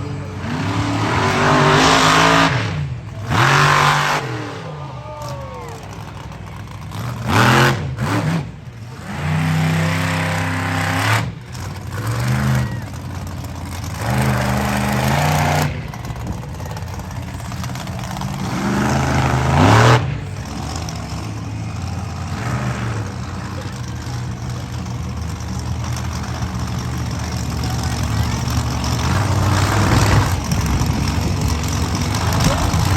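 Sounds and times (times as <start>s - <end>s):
monster truck engine revving: 0.0s - 32.9s.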